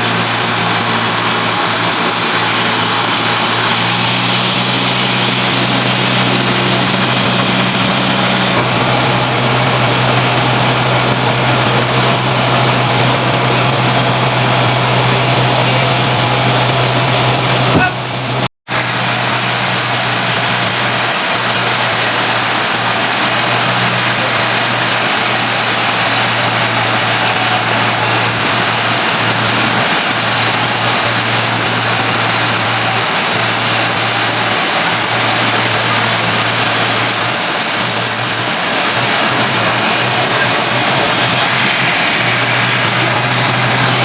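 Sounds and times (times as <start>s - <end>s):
sawmill machinery hum and hiss: 0.0s - 44.0s.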